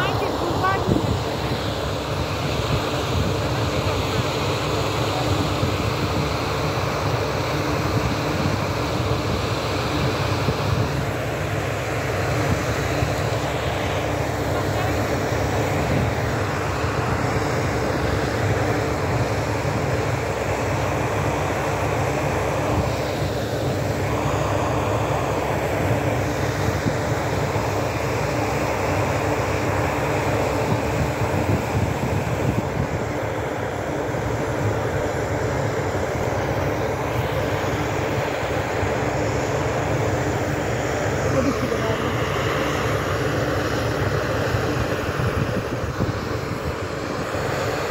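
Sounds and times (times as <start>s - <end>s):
drilling rig engine running: 0.0s - 47.9s
water jet rushing roar: 0.0s - 47.9s.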